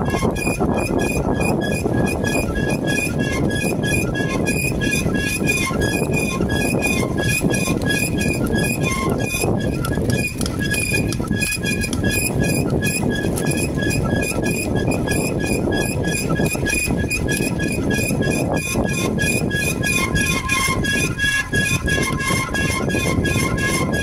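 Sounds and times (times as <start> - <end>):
bicycle squeaking: 0.0 - 24.0
wind and road noise: 0.0 - 24.0.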